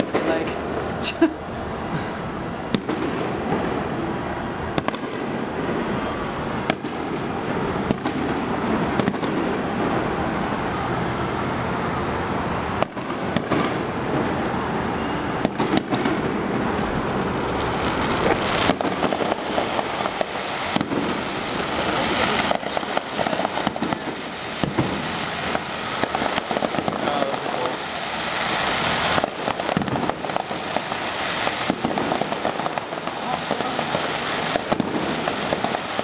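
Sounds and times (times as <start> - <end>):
distant fireworks bangs: 0.0 - 0.8, 1.9 - 10.8, 12.6 - 36.0
steady background noise: 0.0 - 36.0.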